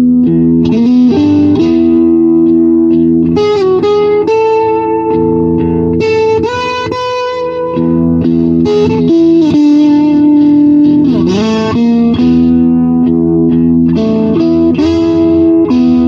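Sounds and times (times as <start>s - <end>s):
fuzzed electric guitar notes: 0.0s - 16.0s.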